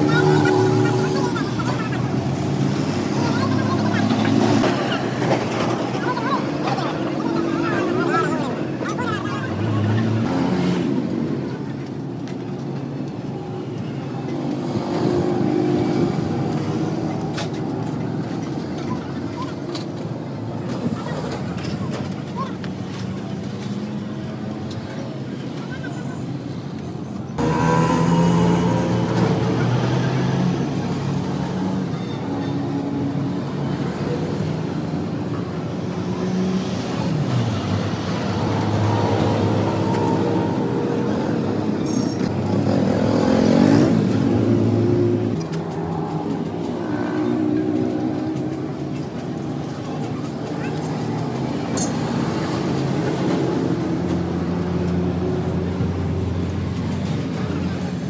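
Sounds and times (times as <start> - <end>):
engine humming: 0.0 - 22.5, 27.2 - 58.0.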